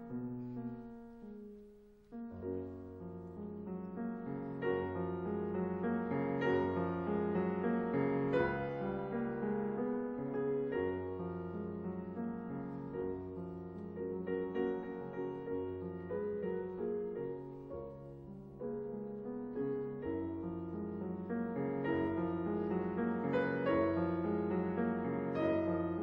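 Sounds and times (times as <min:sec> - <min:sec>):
piano playing held chords: 0:00.0 - 0:26.0.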